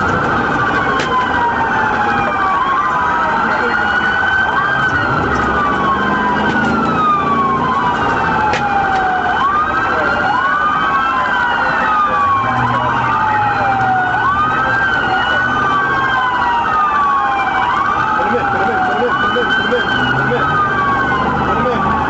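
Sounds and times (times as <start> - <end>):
car engine and road rumble: 0.0 - 22.0
fast pulsing siren: 0.0 - 22.0
police sirens wailing: 0.0 - 22.0.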